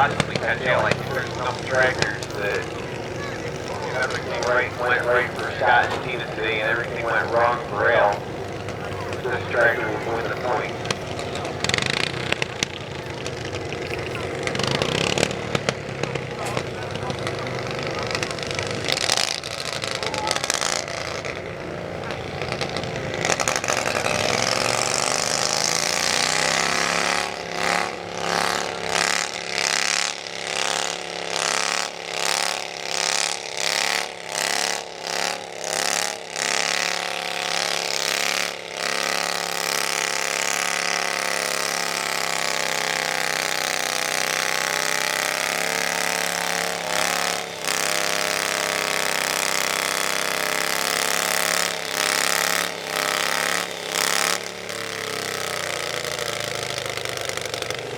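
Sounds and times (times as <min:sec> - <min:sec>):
tractor engine running hard: 0:00.0 - 0:57.9.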